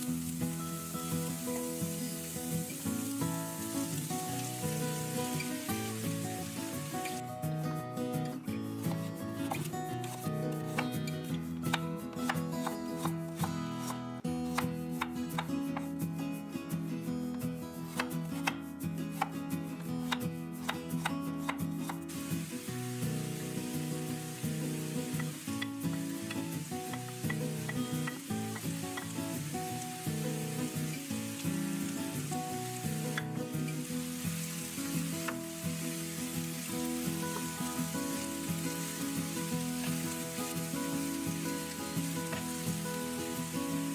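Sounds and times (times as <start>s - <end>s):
food sizzling in hot pan: 0.0s - 13.1s, 21.8s - 43.9s
soft background music: 0.0s - 43.9s.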